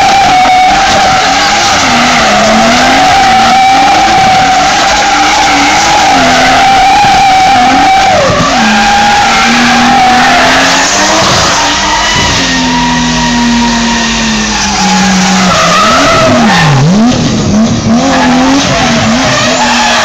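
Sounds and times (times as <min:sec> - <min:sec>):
tyres squealing: 0:00.0 - 0:16.9
car engine revving: 0:00.0 - 0:20.0.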